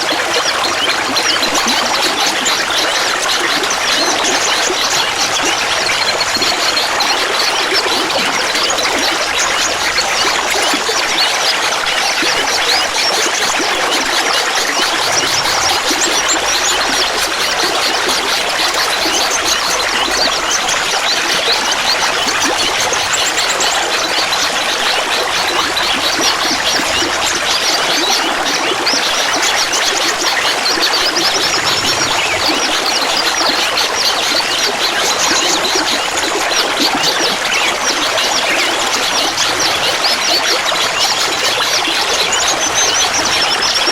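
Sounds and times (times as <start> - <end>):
water trickling and babbling: 0.0 - 43.9.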